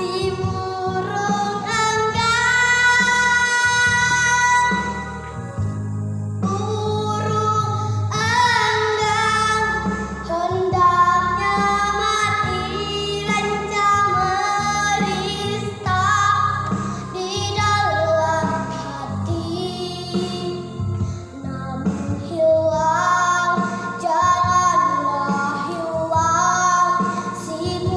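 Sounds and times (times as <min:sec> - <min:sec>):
girl singing with vibrato: 0:00.0 - 0:05.4, 0:06.4 - 0:27.9
backing track: 0:00.0 - 0:27.9.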